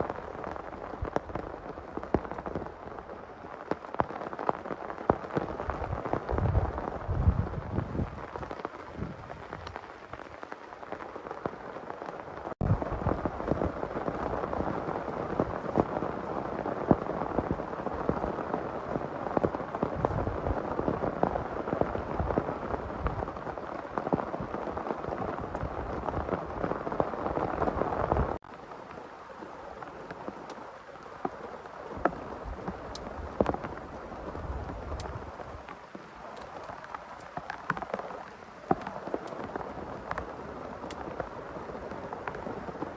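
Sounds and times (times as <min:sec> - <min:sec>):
heavy rain hissing: 0:00.0 - 0:42.9
raindrops hitting close by: 0:00.0 - 0:42.9.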